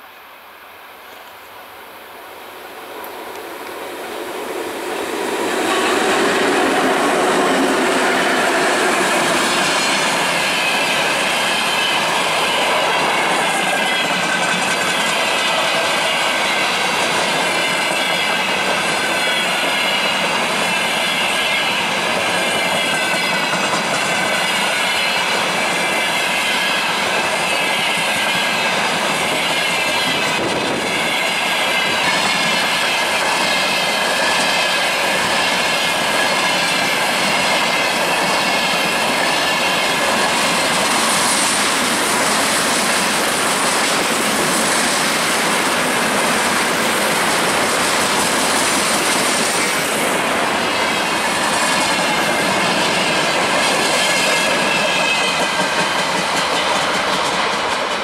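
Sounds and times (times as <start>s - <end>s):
diesel locomotive passing: 0.0s - 58.0s
train wheels on rails: 0.0s - 58.0s.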